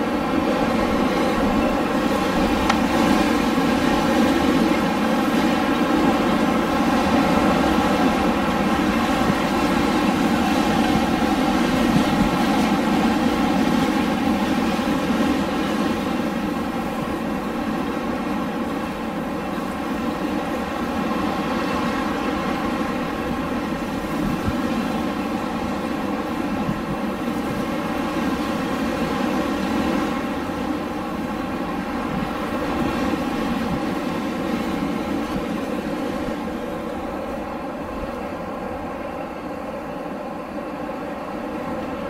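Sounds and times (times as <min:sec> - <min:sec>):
wind rushing roar: 0:00.0 - 0:42.0.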